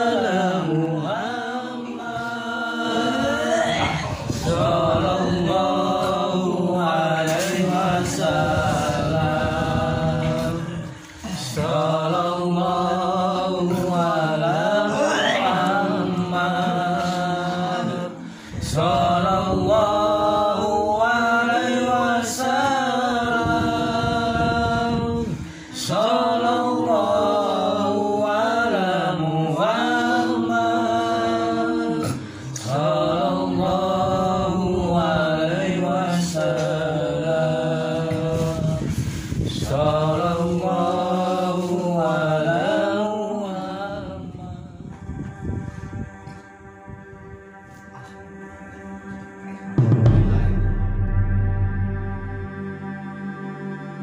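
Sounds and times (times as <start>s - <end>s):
person chanting: 0.0s - 54.0s.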